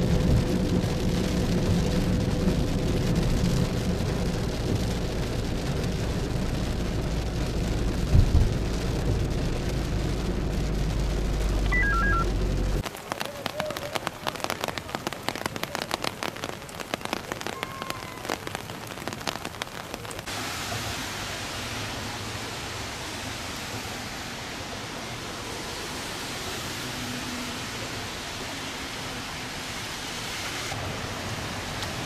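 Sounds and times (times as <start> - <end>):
raindrops pattering on car: 0.0 - 29.3
rain hissing on pavement: 0.0 - 32.0.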